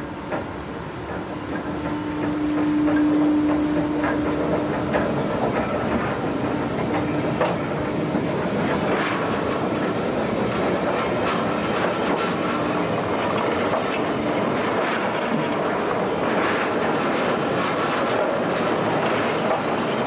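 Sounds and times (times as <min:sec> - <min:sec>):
tram rolling rumble on rails: 0:00.0 - 0:20.0.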